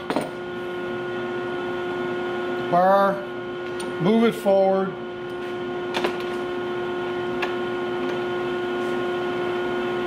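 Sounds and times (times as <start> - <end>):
electric machine hum: 0.0 - 10.0.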